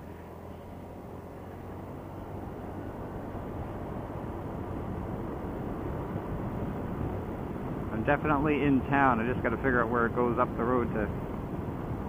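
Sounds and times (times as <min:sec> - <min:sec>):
motorcycle engine hum: 0:00.0 - 0:12.0.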